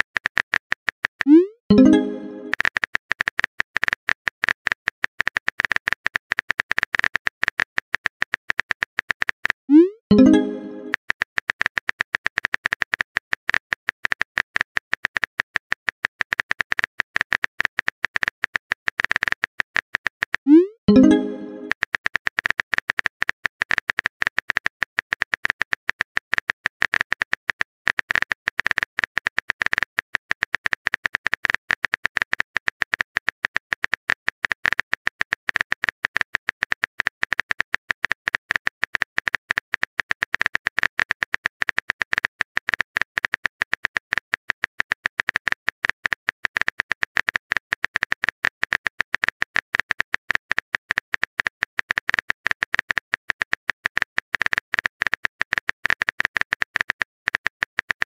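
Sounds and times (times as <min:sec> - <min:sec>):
keyboard typing clicks: 0:01.2 - 0:16.8, 0:20.0 - 0:28.9, 0:30.6 - 0:58.0.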